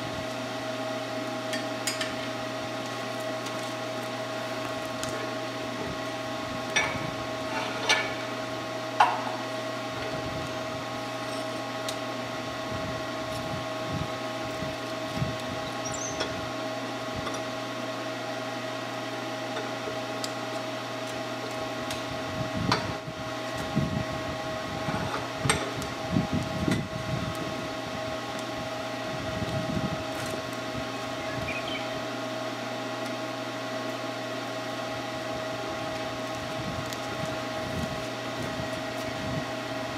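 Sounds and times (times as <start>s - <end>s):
welder humming with fan: 0.0s - 39.9s.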